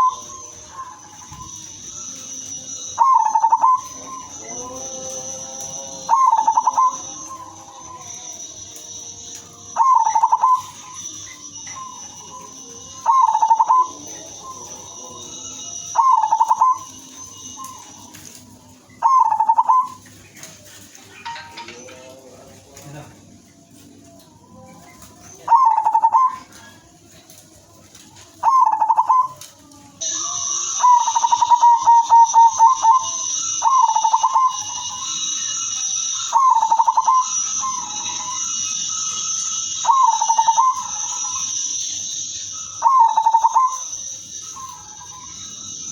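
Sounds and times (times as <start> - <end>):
dove cooing: 0.0 - 8.7, 9.4 - 45.9.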